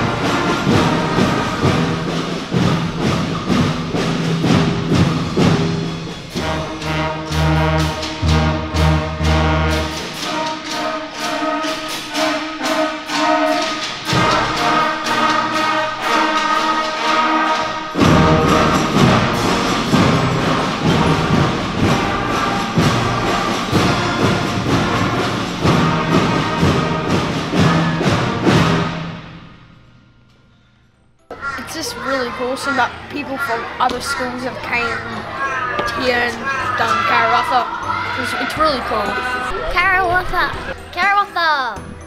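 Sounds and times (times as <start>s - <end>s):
steady drum beats: 0.0s - 29.8s, 31.4s - 41.1s
school concert band playing: 0.0s - 29.9s, 31.3s - 42.0s.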